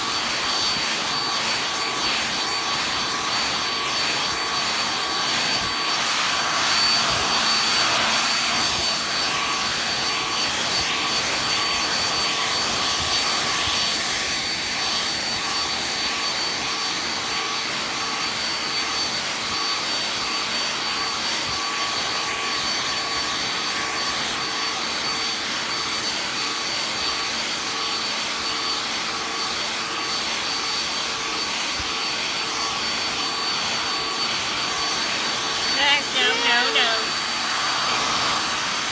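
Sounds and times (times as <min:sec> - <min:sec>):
hair dryer blowing with whine: 0:00.0 - 0:38.9.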